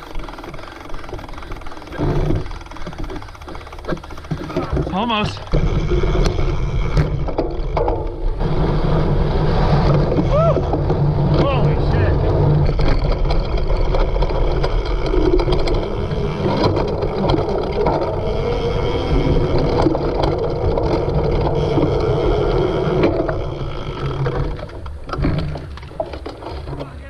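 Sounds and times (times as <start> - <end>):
bike rattling over rough ground: 0.0 - 27.0.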